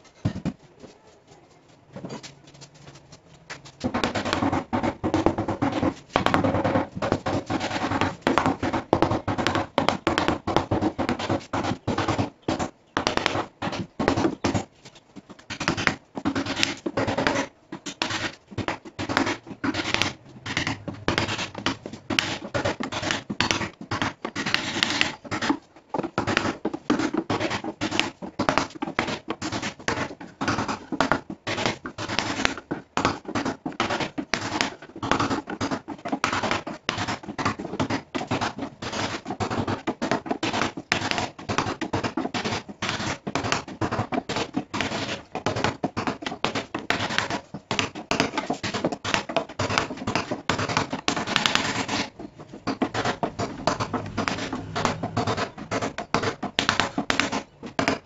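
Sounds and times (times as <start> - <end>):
wooden stick scraping plywood box: 1.9 - 58.0.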